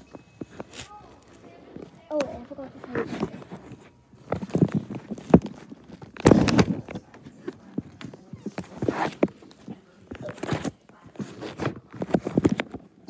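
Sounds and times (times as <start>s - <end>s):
microphone handling rustling and bumps: 1.6s - 13.0s.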